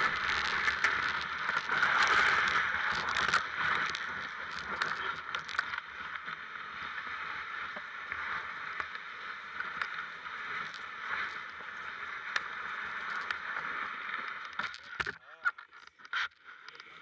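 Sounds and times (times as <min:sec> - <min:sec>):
sled runners scraping over snow: 0:00.0 - 0:14.5
crackles and knocks: 0:00.0 - 0:17.0.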